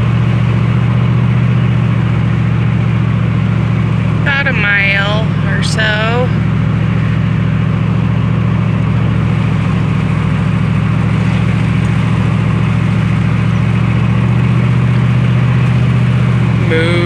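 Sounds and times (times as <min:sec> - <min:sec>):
truck engine hum: 0:00.0 - 0:17.0
tyre and road noise: 0:00.0 - 0:17.0.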